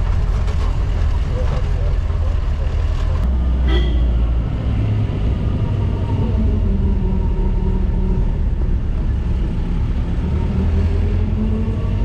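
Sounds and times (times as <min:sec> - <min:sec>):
jeep engine rumbling: 0:00.0 - 0:12.0.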